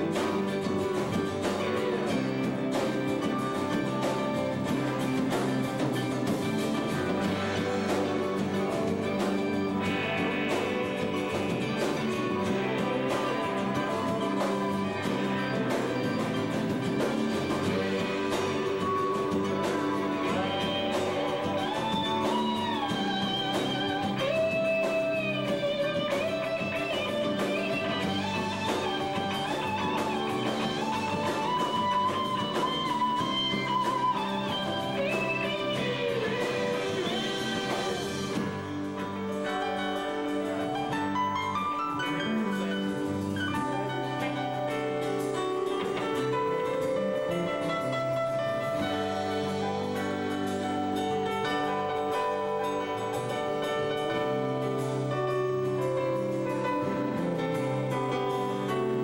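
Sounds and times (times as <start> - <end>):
bending lead melody: 0.0 - 59.0
live band playing: 0.0 - 59.0.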